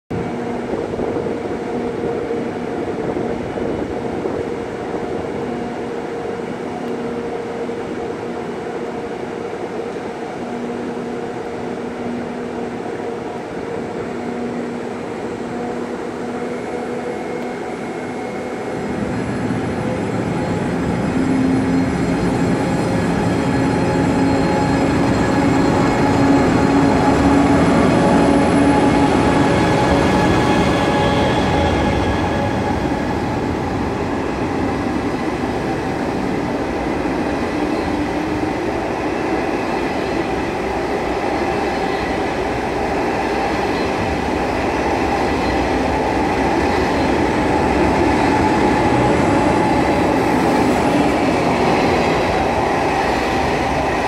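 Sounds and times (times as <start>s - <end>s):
train humming: 0.1s - 54.0s
train whine rising in pitch: 0.2s - 54.0s.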